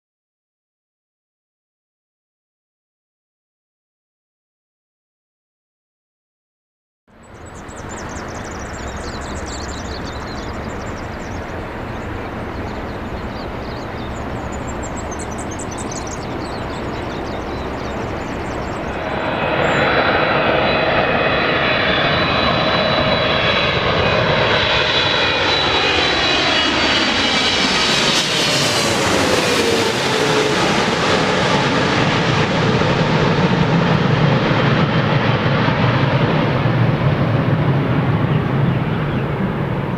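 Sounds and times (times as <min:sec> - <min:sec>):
jet airliner engine noise: 0:07.2 - 0:39.9.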